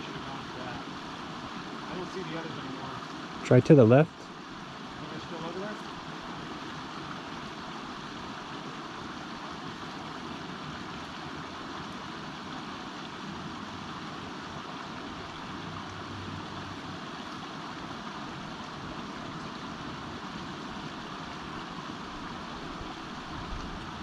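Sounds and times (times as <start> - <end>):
creek running over rocks: 0.0 - 24.0.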